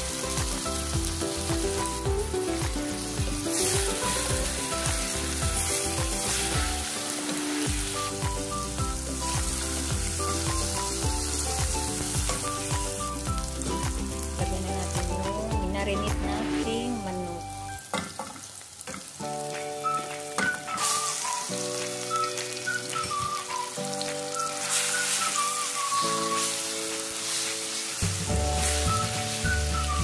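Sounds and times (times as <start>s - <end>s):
background music with steady beat: 0.0s - 18.2s, 19.0s - 30.0s
vegetables sizzling in oil: 0.0s - 30.0s.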